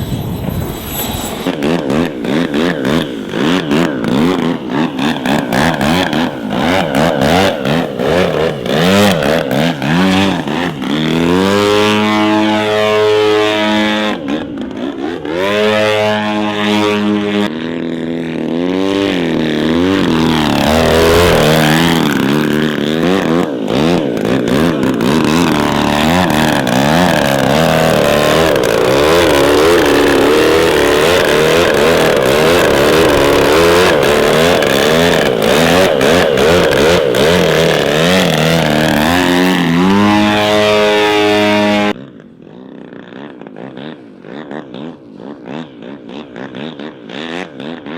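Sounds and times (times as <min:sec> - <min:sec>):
model aircraft engine: 0:00.0 - 0:47.9.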